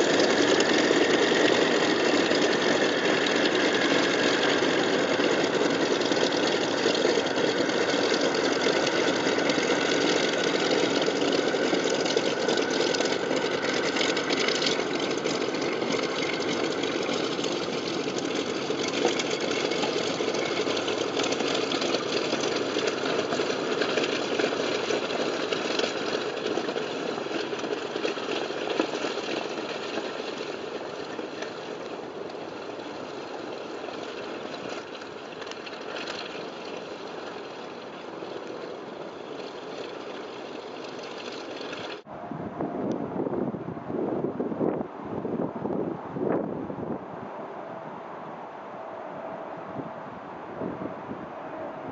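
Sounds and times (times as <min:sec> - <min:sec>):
propeller plane engines rumbling: 0:00.0 - 0:51.9.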